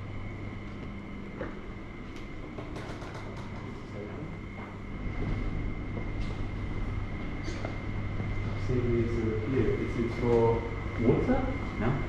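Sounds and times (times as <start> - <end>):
low hall background hum: 0.0 - 12.0.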